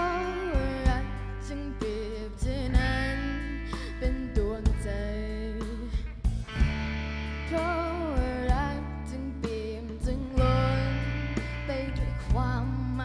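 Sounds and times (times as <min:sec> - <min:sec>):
bass guitar: 0:00.0 - 0:13.0
drums: 0:00.0 - 0:13.0
guitar: 0:00.0 - 0:13.0.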